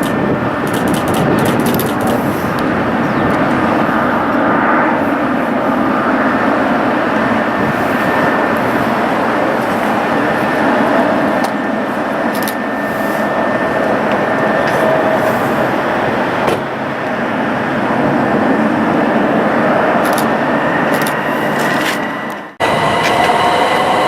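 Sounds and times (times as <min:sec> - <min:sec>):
faint engine whine: 0:00.0 - 0:24.0
jet engines roaring: 0:00.0 - 0:24.0.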